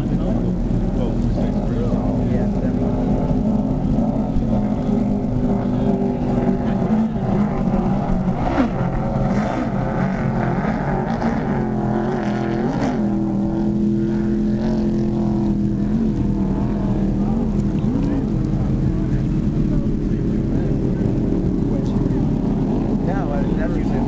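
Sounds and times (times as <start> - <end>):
racing boat engines droning: 0.0 - 24.0.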